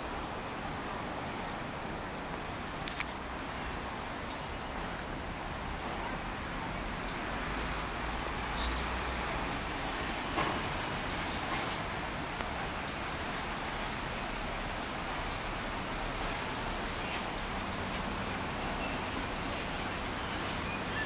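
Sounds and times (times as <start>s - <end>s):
distant road traffic hum: 0.0s - 21.0s.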